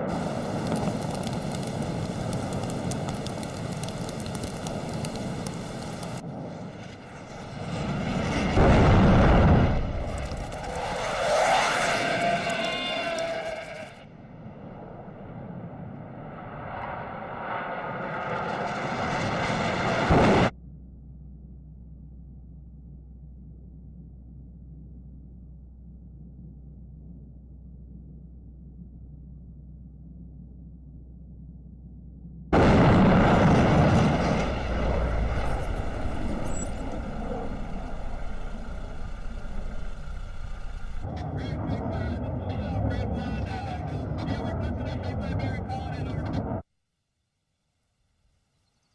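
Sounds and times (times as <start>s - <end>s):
low-flying aircraft engine: 0.0s - 46.6s.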